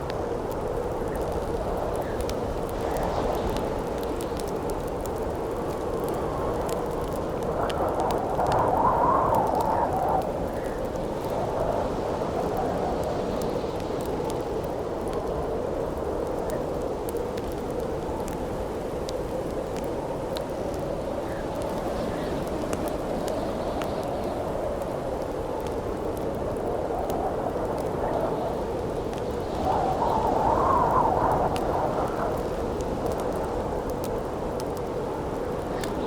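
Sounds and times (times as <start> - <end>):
campfire popping and crackling: 0.0 - 36.0
howling wind: 0.0 - 36.0.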